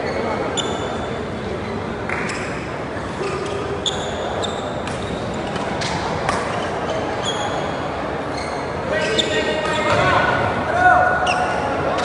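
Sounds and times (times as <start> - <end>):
shoes squeaking on court floor: 0.0 - 10.1, 11.2 - 12.0
indoor hall background noise: 0.0 - 12.0.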